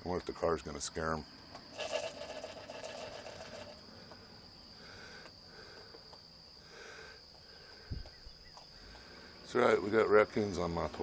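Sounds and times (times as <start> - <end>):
high-pitched insect drone: 0.3 - 11.0.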